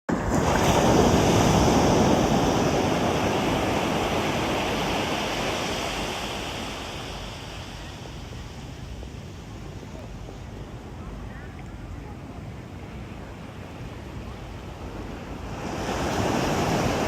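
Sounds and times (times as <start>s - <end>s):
ocean waves breaking on beach: 0.1s - 17.0s.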